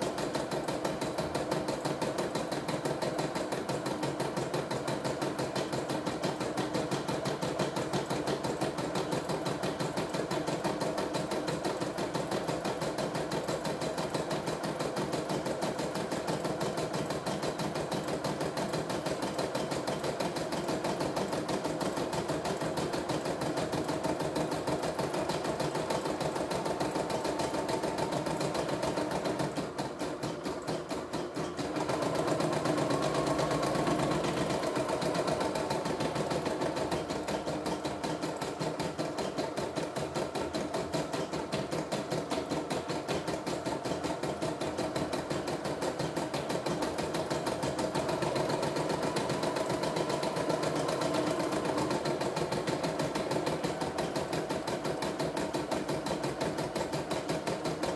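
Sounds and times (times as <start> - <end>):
embroidery machine stitching: 0.0 - 57.9.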